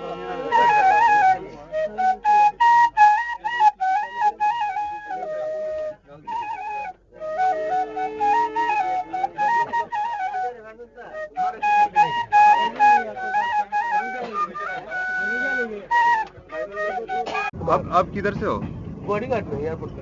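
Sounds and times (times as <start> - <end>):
flute melody: 0.0 - 17.6.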